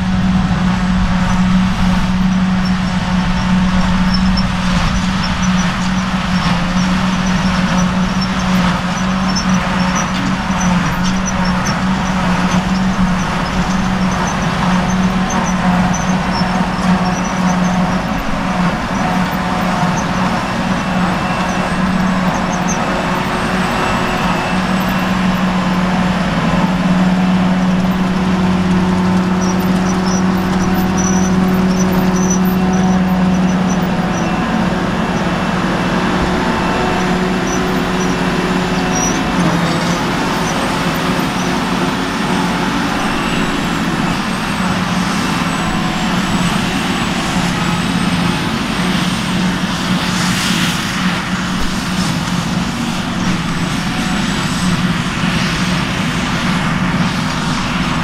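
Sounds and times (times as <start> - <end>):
forage harvester chopping grass: 0.0 - 58.0
tractor engine: 0.0 - 58.0.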